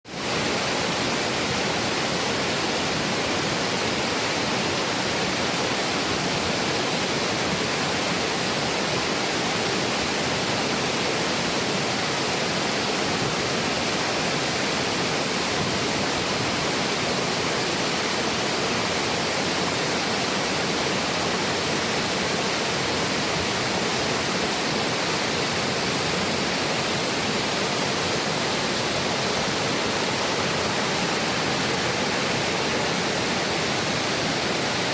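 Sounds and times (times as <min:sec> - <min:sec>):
water rushing: 0:00.1 - 0:34.9.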